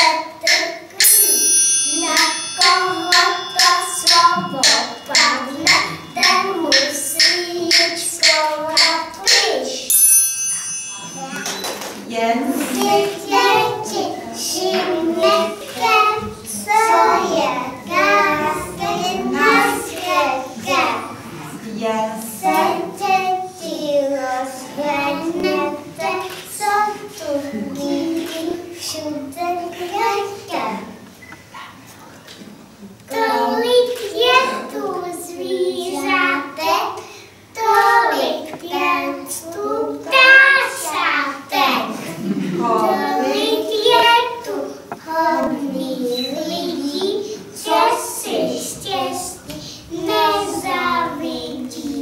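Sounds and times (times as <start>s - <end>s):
young children singing: 0.0s - 10.0s, 11.0s - 31.2s, 32.8s - 52.0s.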